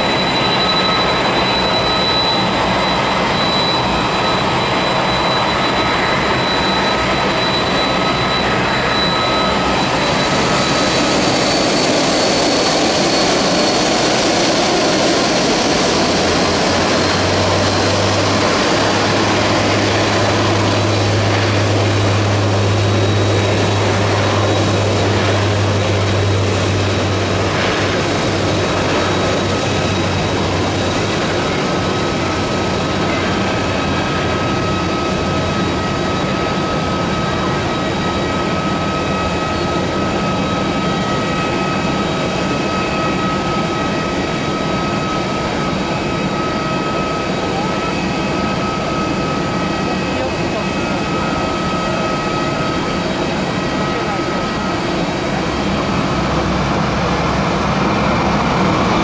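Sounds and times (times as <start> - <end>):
jet engines whining: 0.0 - 59.0
propeller drone: 0.0 - 59.0.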